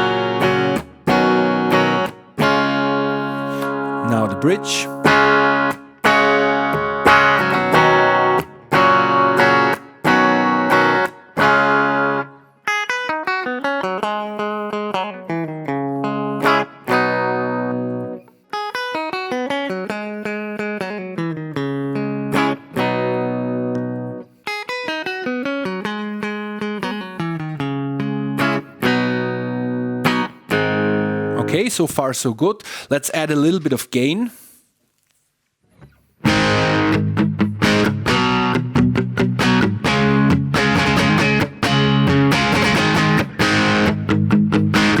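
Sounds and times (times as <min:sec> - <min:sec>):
clean electric guitar chords: 0:00.0 - 0:18.2, 0:19.1 - 0:24.2, 0:25.0 - 0:31.4, 0:36.2 - 0:45.0
electric guitar arpeggio: 0:00.0 - 0:31.4, 0:36.2 - 0:45.0.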